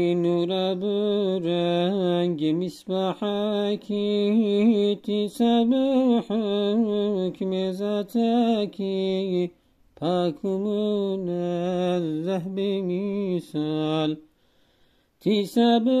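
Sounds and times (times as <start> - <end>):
person chanting: 0.0 - 14.2.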